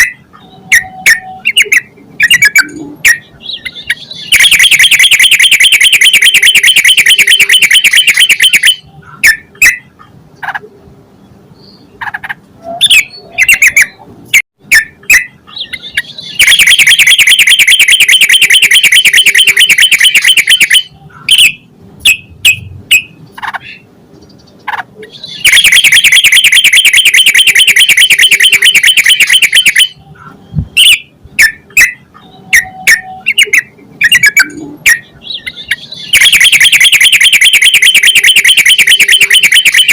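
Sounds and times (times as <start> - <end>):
bird chirps: 0.0 - 10.0, 11.2 - 14.0, 14.7 - 39.9
bird chattering: 0.0 - 10.7, 14.7 - 39.9.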